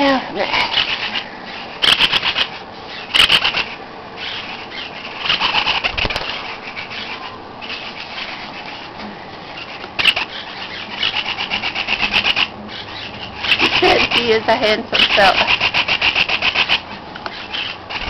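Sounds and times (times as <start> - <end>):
parakeets pulsing chatter: 0.0 - 18.0.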